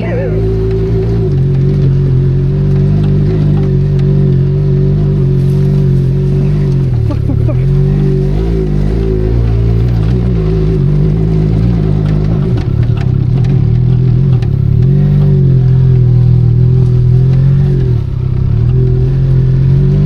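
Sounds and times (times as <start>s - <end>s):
motorcycle engine revving: 0.0s - 20.0s
knocks and clatter on trail: 0.4s - 20.0s.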